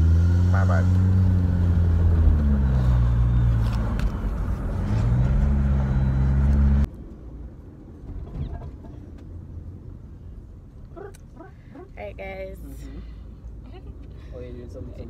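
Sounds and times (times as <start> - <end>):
car engine: 0.0 - 15.0
road noise inside car: 0.0 - 15.0.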